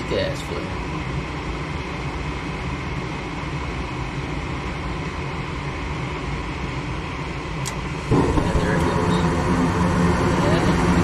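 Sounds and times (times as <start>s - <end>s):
furnace inducer motor humming: 0.0s - 11.0s.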